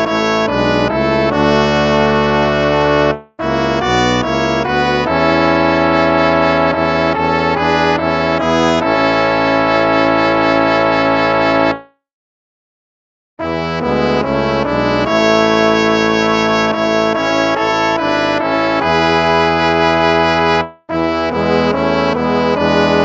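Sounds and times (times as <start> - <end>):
instrumental hymn music: 0.0 - 11.9, 13.4 - 23.0.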